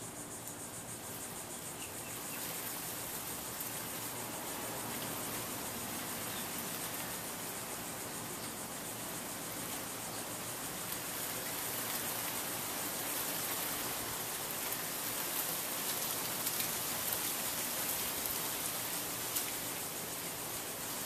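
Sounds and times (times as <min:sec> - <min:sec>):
ceiling fan airy hiss: 0:00.0 - 0:21.0.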